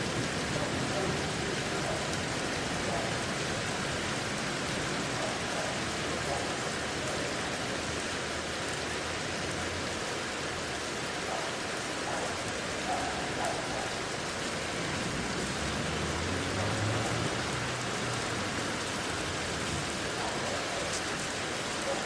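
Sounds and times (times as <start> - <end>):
rain pattering on surfaces: 0.0 - 22.0.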